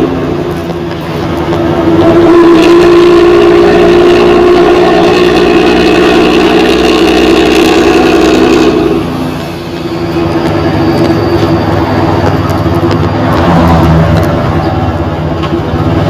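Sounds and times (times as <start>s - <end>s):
bus engine revving: 0.0s - 16.0s.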